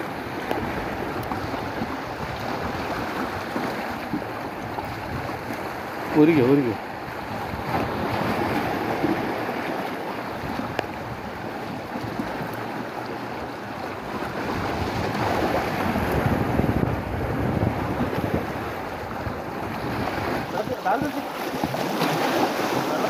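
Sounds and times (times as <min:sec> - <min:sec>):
sea surf washing on shore: 0:00.0 - 0:23.0
wind buffeting microphone: 0:00.0 - 0:23.0.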